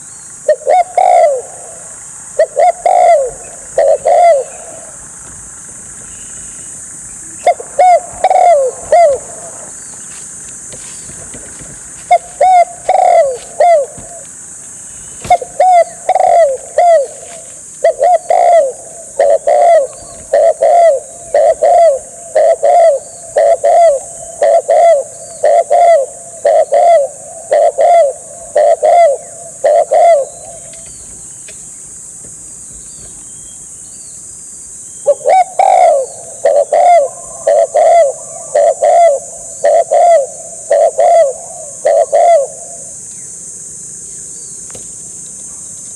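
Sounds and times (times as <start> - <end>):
dove cooing: 0.0 - 33.6, 35.0 - 43.6.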